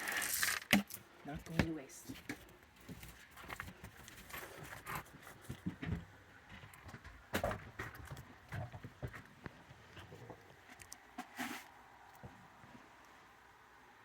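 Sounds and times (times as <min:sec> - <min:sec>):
raccoons moving on wooden deck: 0:00.0 - 0:13.2.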